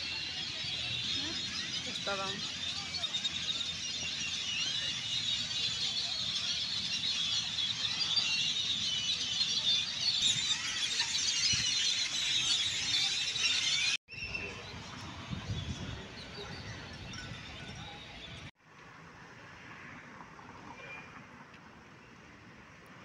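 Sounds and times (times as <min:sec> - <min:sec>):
flock of birds chirping: 0:00.0 - 0:18.5.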